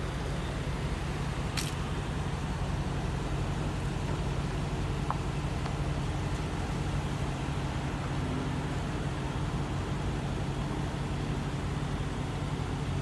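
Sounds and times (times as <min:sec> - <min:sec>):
vehicle engines idling: 0:00.0 - 0:13.0.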